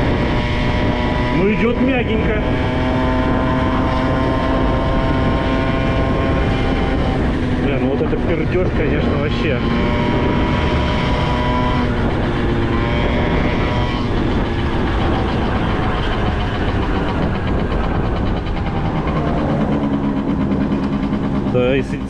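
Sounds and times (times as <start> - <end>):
moped engine running: 0.0 - 22.0.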